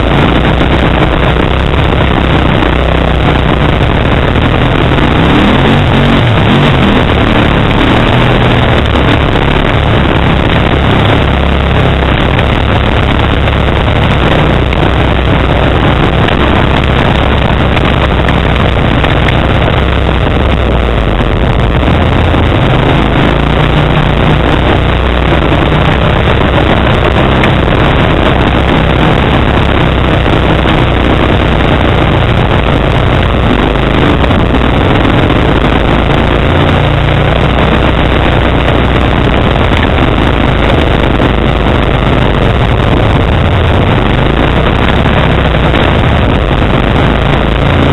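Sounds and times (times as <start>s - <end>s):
atv engine revving: 0.0s - 47.9s.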